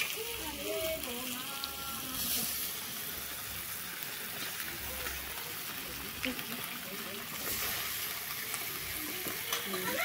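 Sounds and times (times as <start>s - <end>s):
faint sizzle of frying: 0.0s - 10.0s.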